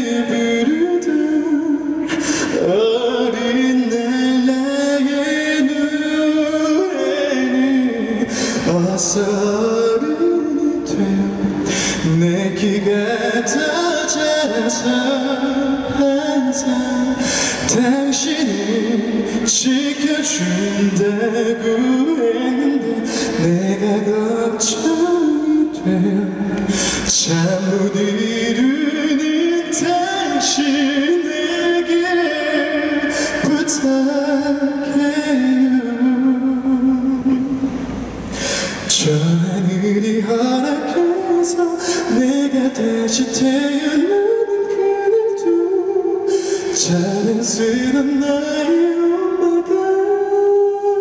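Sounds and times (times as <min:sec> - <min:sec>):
man singing a cappella: 0:00.0 - 0:51.0.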